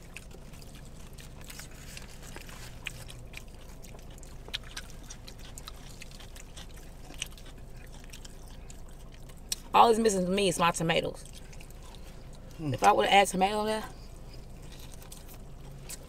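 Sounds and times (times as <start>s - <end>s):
chewing and biting: 0.0s - 16.0s
low steady hum: 0.0s - 16.0s.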